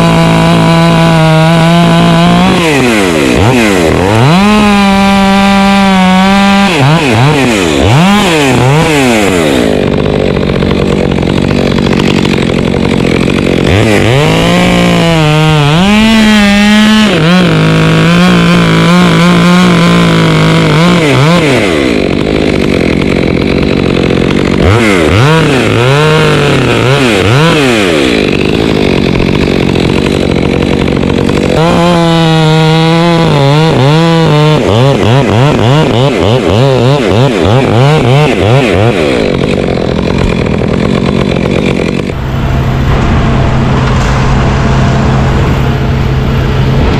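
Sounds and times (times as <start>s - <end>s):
chainsaw revving and cutting: 0.0s - 46.9s.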